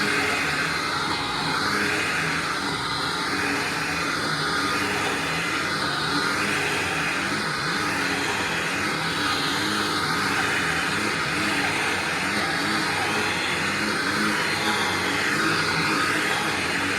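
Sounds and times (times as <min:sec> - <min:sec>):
upright vacuum cleaner running: 0:00.0 - 0:16.9.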